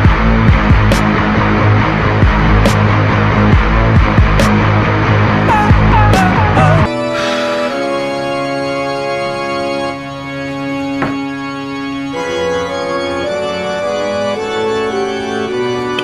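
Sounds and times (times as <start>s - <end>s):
slow organ music: 0.0s - 16.0s.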